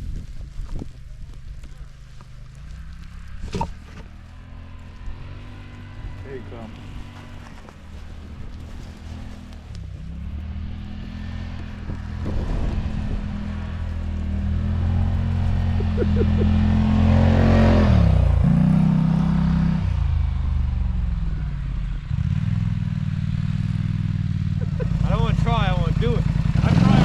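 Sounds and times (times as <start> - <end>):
vehicle engine revving past: 3.0 - 27.0.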